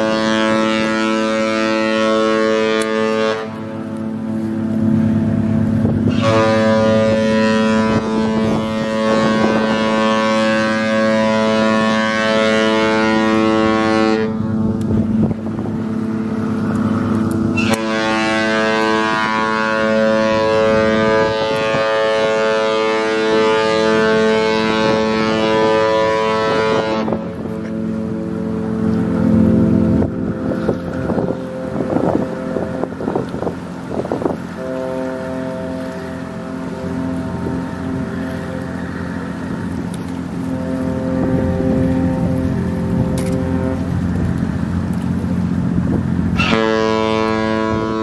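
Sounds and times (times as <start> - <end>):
low steady horn tone: 0.0 - 45.2, 46.4 - 48.0
ship horn blasts: 0.0 - 48.0.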